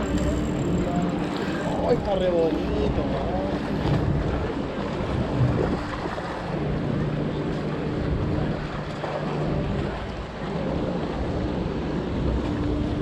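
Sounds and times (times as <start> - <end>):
steady low hum: 0.0 - 13.0
surf washing against rocks: 0.0 - 13.0
wind buffeting microphone: 0.0 - 13.0.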